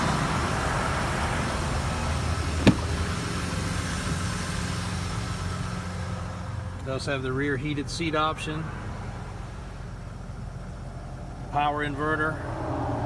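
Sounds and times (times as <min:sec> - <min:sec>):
diesel engine idling: 0:00.0 - 0:12.4.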